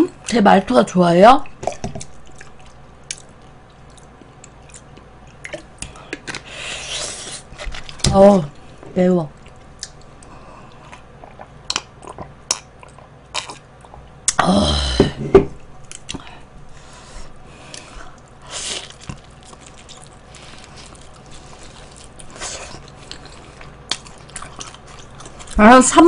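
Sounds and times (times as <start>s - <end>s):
crunchy eating and chewing: 1.5s - 14.4s, 17.4s - 26.0s.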